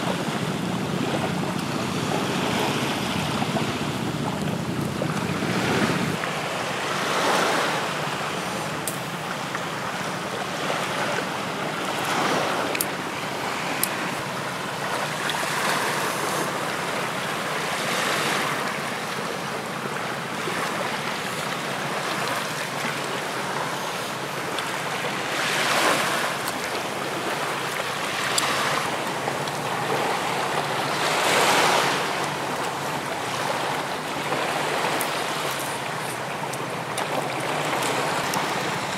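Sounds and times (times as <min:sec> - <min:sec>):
waves breaking on sandy shore: 0:00.0 - 0:38.9.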